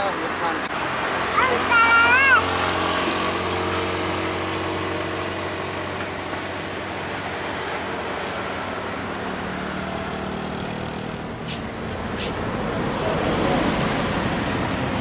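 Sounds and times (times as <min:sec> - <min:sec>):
tyre and road hiss: 0:00.7 - 0:15.0.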